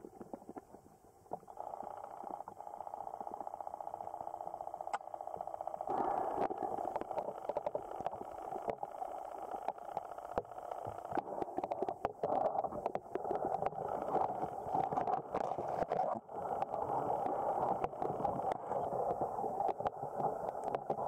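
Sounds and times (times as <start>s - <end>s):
small clicks and crackles: 0.0s - 21.0s.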